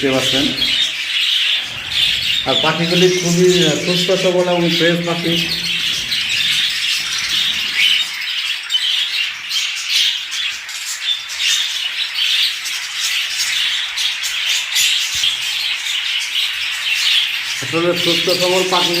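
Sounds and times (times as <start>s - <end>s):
budgerigars chattering: 0.0s - 19.0s.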